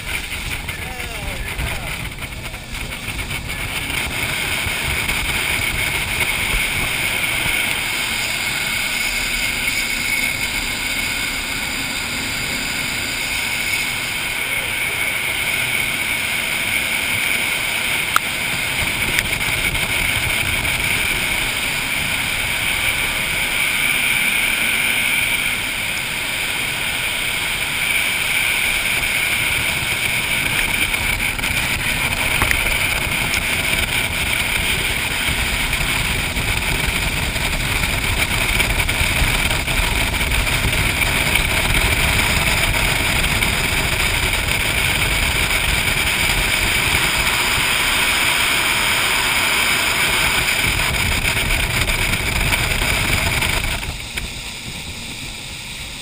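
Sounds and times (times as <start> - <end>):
jet boat engine whine: 0.0 - 56.0
water and wind rushing: 0.0 - 56.0.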